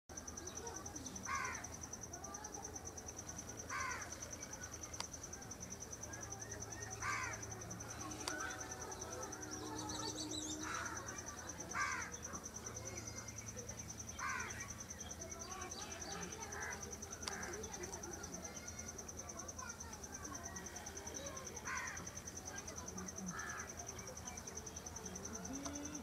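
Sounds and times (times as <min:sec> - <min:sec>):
insect pulsing trill: 0:00.4 - 0:26.0.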